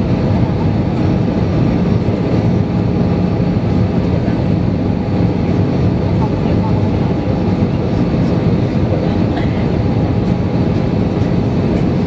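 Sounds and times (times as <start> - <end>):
jet engine cabin drone: 0.0 - 12.0.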